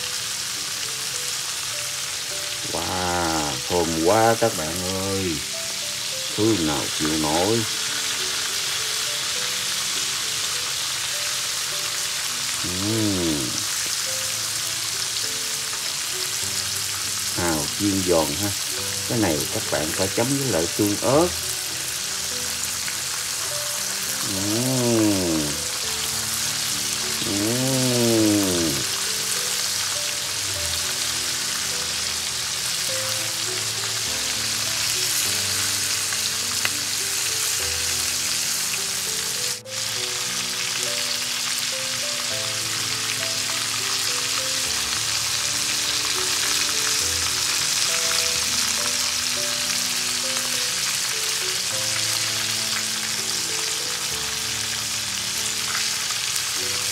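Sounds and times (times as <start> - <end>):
background music: 0.0 - 56.9
oysters deep-frying in oil: 0.0 - 56.9.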